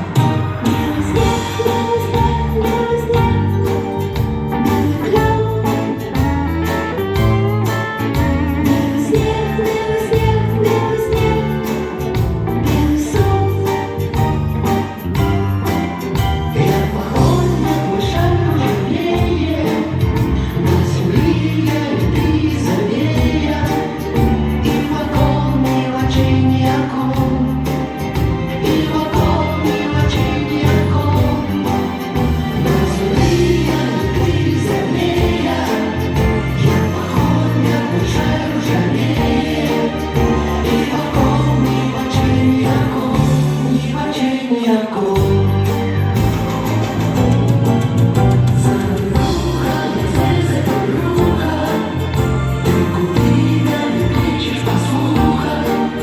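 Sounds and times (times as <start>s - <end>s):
band with bass and beat: 0.0s - 44.2s, 45.0s - 56.0s
voices singing pop song: 0.0s - 46.7s, 48.1s - 56.0s.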